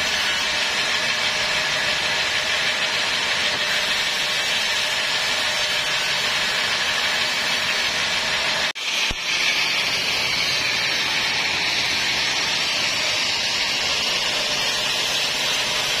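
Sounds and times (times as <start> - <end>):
band saw whirring hiss: 0.0 - 16.0.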